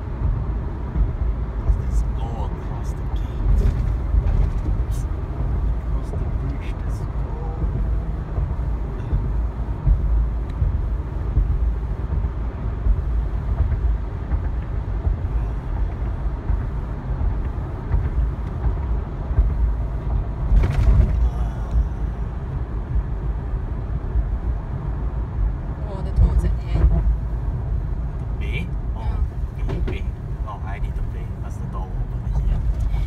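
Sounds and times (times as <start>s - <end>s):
car road noise rumble: 0.0s - 33.0s.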